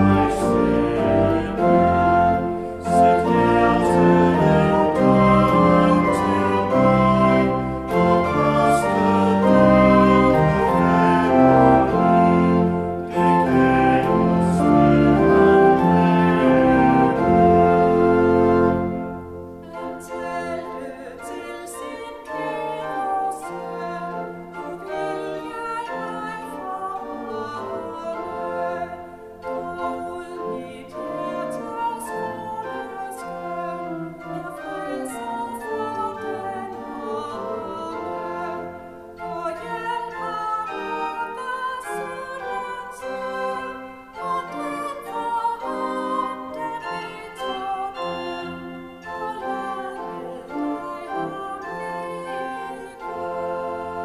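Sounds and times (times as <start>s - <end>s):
church organ: 0.0s - 54.0s
group singing a hymn: 0.0s - 54.0s.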